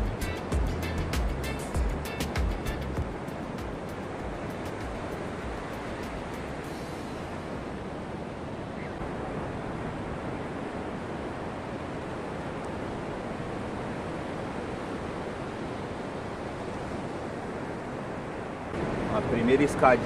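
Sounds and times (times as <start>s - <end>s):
ocean surf breaking on beach: 3.0s - 20.0s.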